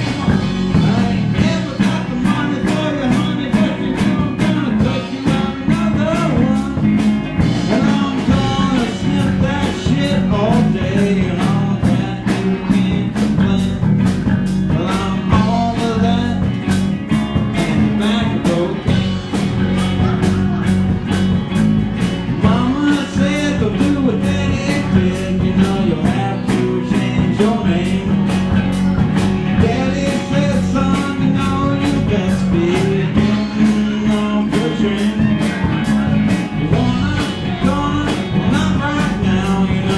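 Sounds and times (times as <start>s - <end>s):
drum kit steady beat: 0.0s - 39.9s
guitar: 0.0s - 39.9s
live rock band playing: 0.0s - 39.9s.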